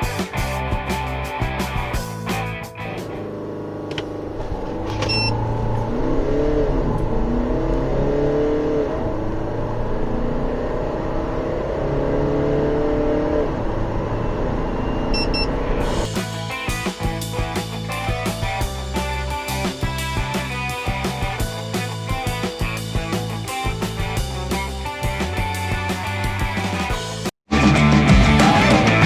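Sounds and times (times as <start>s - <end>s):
diesel engine accelerating: 0.0s - 29.0s.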